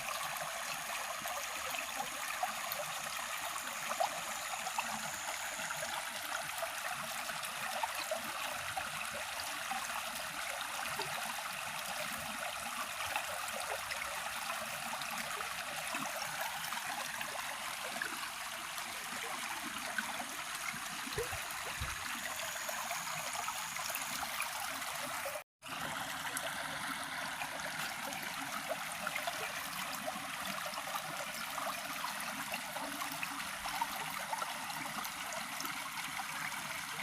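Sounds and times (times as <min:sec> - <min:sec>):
flowing river water: 0:00.0 - 0:37.0.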